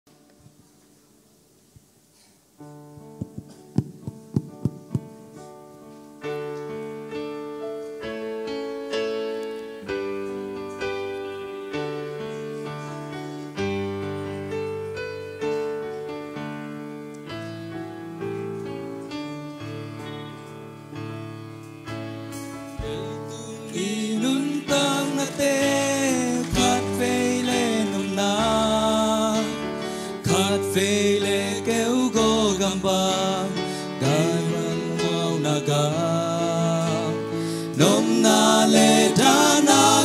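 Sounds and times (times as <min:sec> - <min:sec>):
piano chords of slow hymn: 0:00.1 - 0:40.0.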